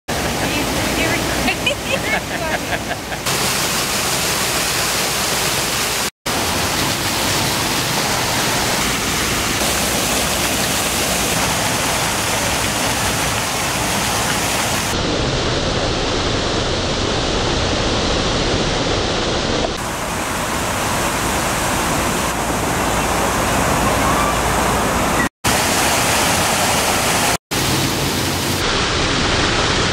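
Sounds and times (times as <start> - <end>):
fountain water cascading: 0.1 - 29.9.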